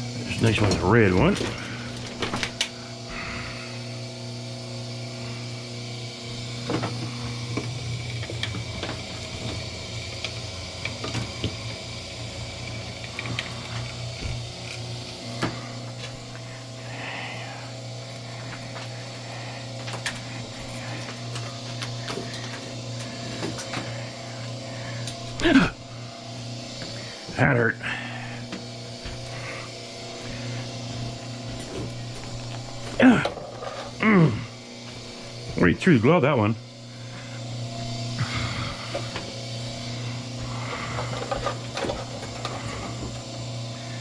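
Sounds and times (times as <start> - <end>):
wire stripping machine motor hum: 0.0 - 44.0.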